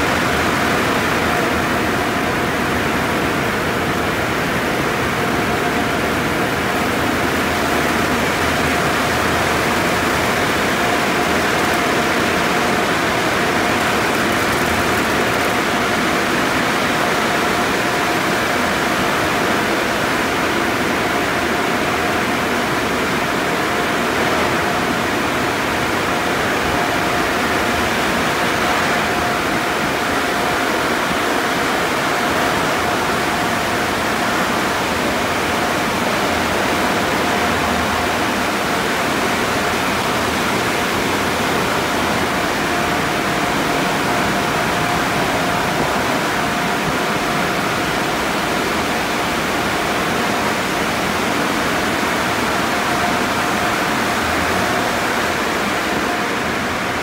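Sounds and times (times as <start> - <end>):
car wash water spraying and machinery: 0.0 - 57.0
thin steady whine: 0.0 - 57.0.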